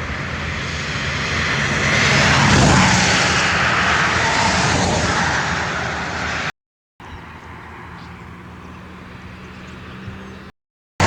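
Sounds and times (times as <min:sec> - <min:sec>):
aircraft engine drone: 0:00.0 - 0:10.5.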